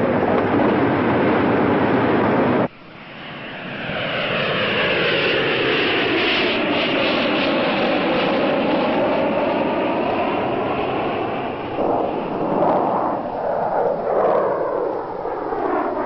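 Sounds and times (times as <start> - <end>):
jet airliner engine roar: 0.0 - 16.0.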